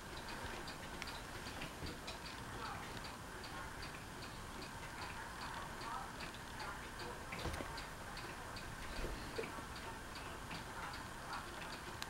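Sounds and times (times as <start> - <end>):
faint steady ticking: 0.0 - 12.0.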